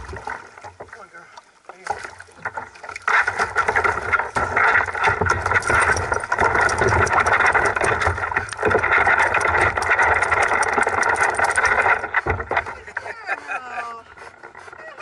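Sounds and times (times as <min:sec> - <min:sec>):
claws clattering on plastic hull: 0:00.0 - 0:15.0.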